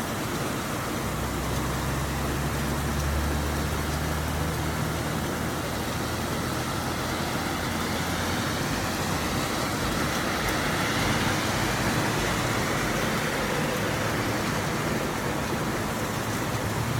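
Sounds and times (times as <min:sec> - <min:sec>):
steady rain hiss: 0:00.0 - 0:16.9
tyres on wet road: 0:00.0 - 0:16.9.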